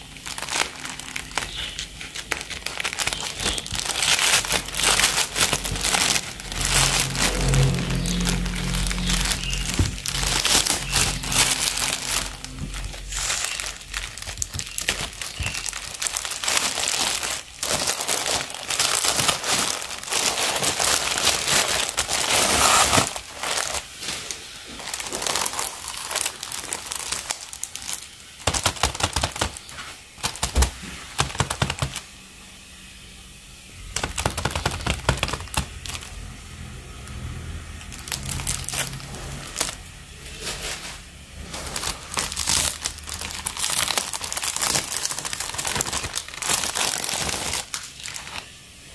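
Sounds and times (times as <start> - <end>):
cellophane crackling: 0.0 - 32.3, 33.6 - 48.9
plastic mailer bag crinkling: 0.0 - 32.3, 33.7 - 48.9.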